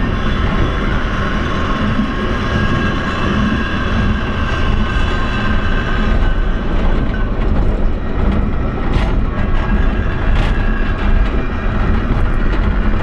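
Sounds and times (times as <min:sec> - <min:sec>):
funicular car rumbling on rails: 0:00.0 - 0:13.0.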